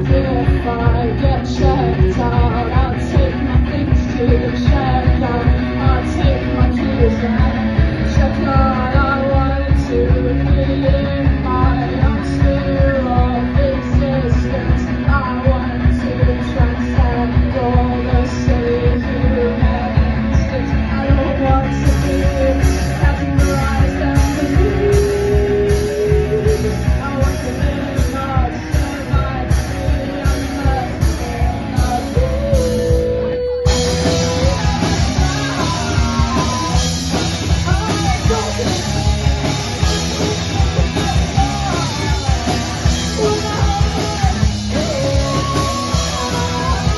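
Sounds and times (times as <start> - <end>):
live rock band playing: 0.0 - 46.9
person singing: 0.0 - 46.9.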